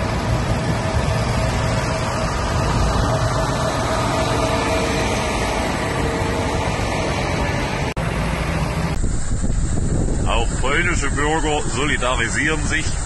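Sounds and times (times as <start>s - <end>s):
heavy vehicle engines rumbling: 0.0s - 13.0s.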